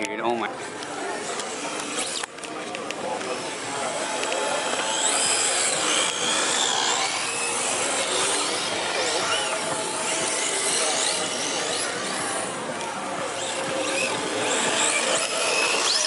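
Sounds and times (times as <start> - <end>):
small electric motors whining: 0.6 - 16.0.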